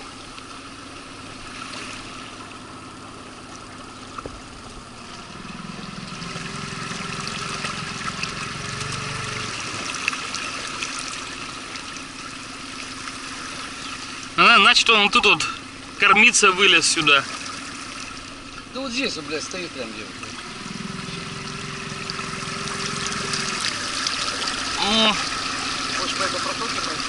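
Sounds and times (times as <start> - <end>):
outboard motor running: 0.0 - 27.0
water splashing along hull: 0.0 - 27.0.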